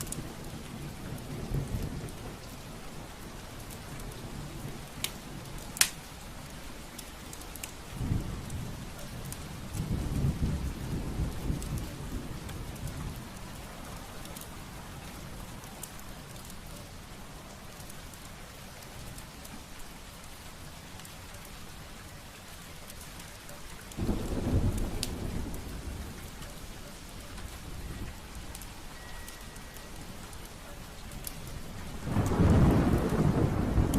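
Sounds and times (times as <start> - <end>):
wood fire crackling: 0.0 - 9.9, 10.6 - 33.9.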